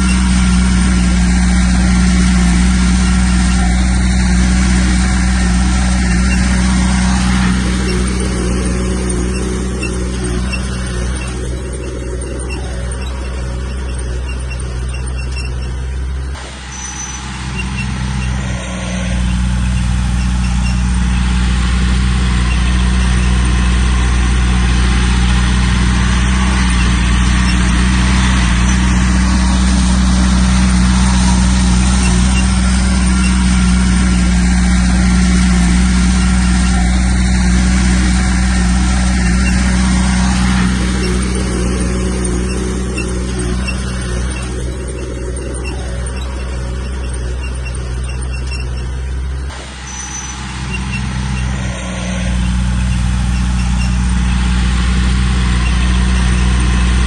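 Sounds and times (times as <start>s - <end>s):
diesel engine drone: 0.0s - 57.0s
rushing grinding noise: 0.0s - 57.0s.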